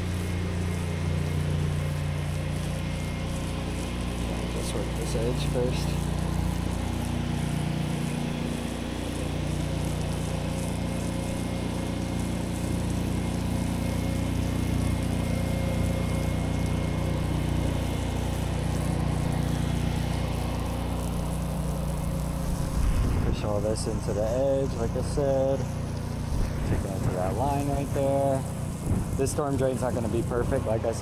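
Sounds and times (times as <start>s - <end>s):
pressure washer engine running: 0.0s - 31.0s
water jet hissing onto concrete: 0.0s - 31.0s.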